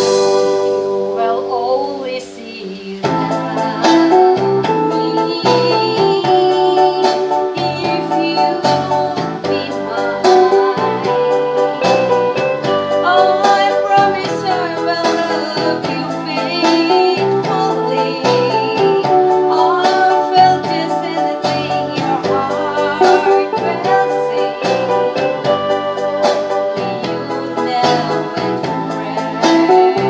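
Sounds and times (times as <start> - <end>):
instrumental music with steady beat: 0.0 - 30.0
woman singing into a microphone: 0.8 - 30.0.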